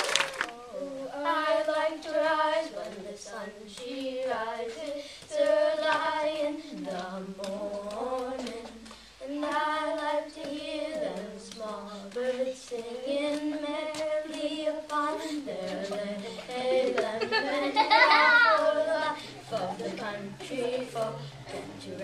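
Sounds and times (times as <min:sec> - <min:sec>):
children singing: 0:00.5 - 0:22.0.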